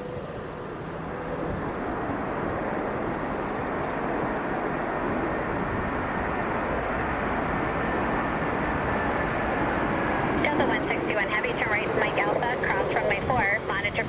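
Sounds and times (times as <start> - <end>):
jet engine rushing: 0.0 - 14.0.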